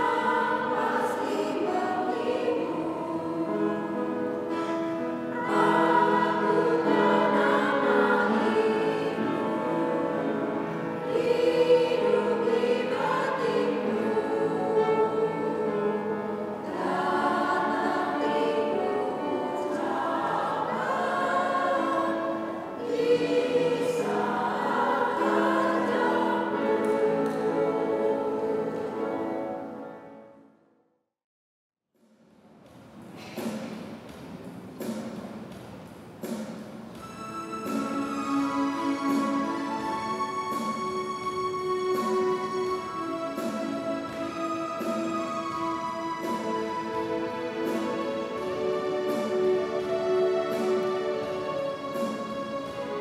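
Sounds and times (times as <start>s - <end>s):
women's choir singing a hymn: 0.0s - 30.0s, 37.1s - 53.0s.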